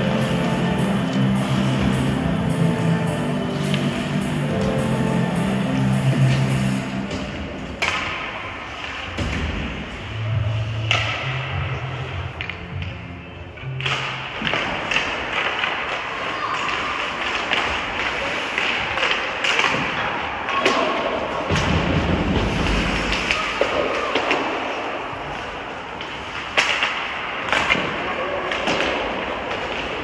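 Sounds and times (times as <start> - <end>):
hockey sticks clacking: 0.0 - 10.0, 10.6 - 11.6, 12.3 - 13.0, 13.6 - 30.0
skates scraping ice: 0.0 - 10.9, 14.5 - 30.0.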